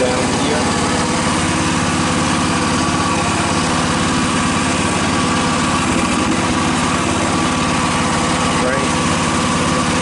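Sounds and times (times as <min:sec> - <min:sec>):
mini excavator engine running: 0:00.0 - 0:10.0.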